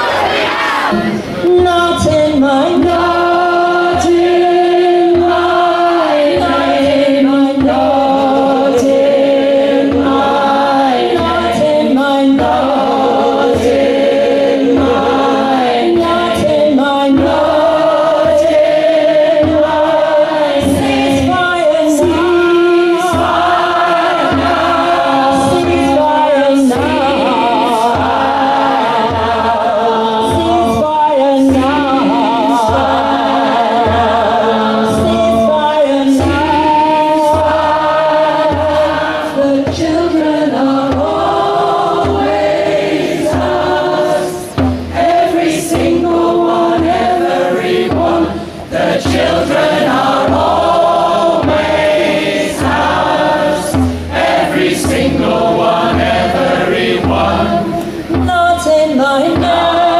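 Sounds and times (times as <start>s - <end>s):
choir singing held notes: 0.0s - 59.9s
steady beat: 0.0s - 59.9s.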